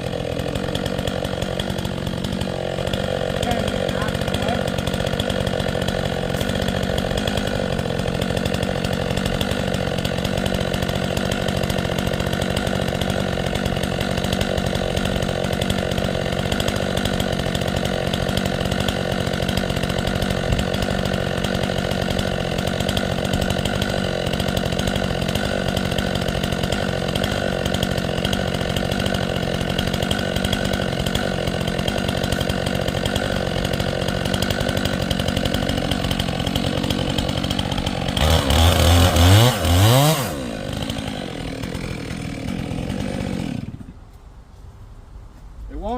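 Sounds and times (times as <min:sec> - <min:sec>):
chainsaw cutting tree trunk: 0:00.0 - 0:44.2.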